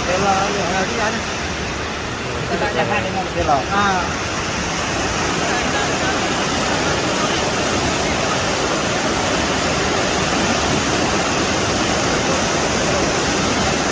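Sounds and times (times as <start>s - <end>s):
flood water rushing: 0.0s - 13.9s.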